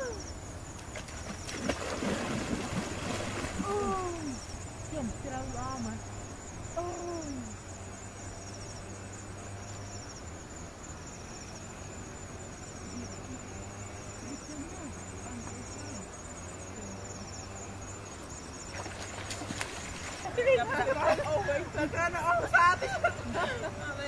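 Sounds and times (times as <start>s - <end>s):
insects chirping in trills: 0.0s - 24.0s
low steady hum: 0.0s - 24.0s.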